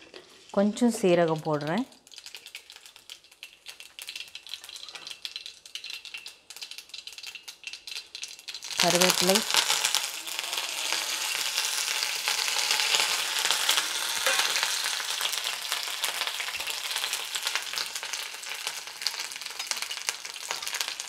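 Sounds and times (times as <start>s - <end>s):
crackles and pops: 0.0s - 21.0s
seeds sizzling in hot oil: 0.0s - 21.0s.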